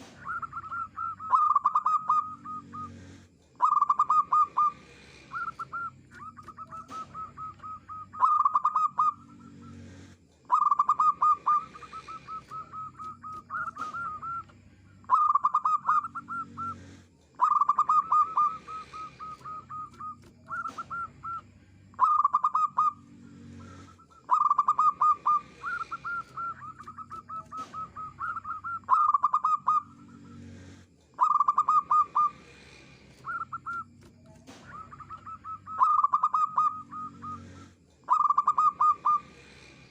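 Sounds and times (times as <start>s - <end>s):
dove cooing in staccato phrases: 0.0s - 39.9s.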